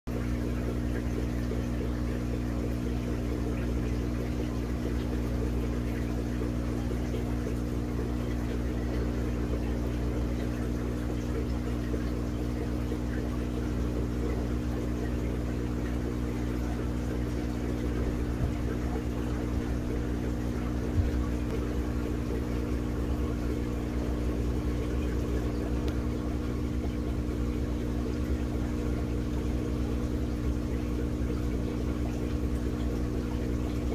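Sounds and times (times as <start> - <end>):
aquarium equipment humming: 0.1 - 33.9.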